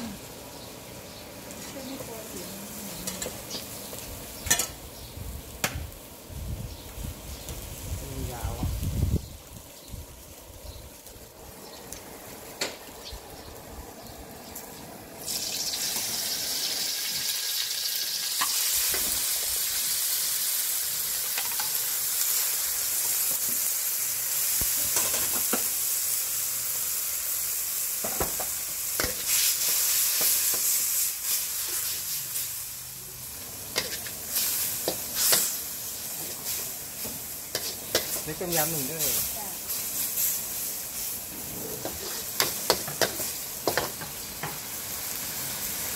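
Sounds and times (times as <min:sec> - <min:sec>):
food sizzling in a wok: 0:00.0 - 0:45.9.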